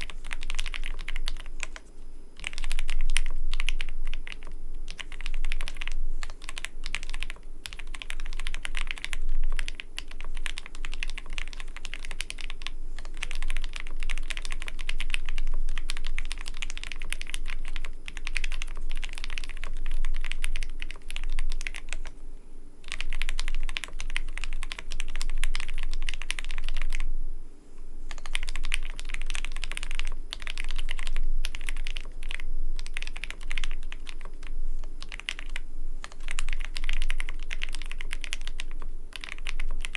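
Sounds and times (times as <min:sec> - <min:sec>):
mechanical keyboard typing: 0:00.0 - 0:22.1, 0:22.8 - 0:27.1, 0:28.1 - 0:39.9.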